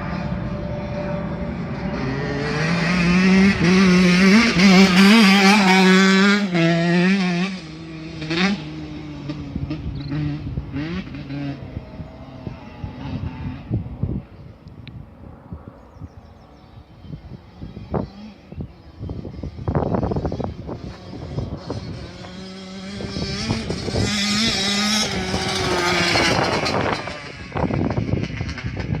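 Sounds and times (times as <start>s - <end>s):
dirt bike engine revving: 0.0s - 14.2s, 17.3s - 29.0s.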